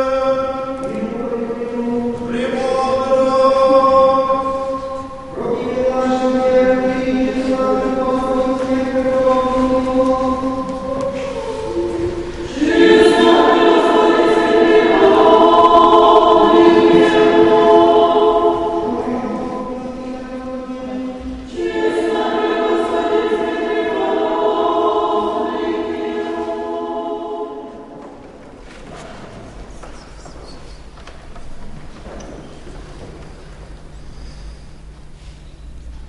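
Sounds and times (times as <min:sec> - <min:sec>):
church choir singing: 0:00.0 - 0:29.2.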